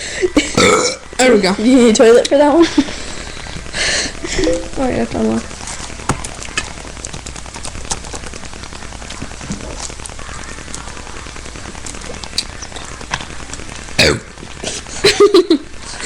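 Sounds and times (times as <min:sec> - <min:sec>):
low hum: 0:00.0 - 0:16.0
steady hiss: 0:00.0 - 0:16.0
faint clicks and crackles: 0:01.0 - 0:16.0.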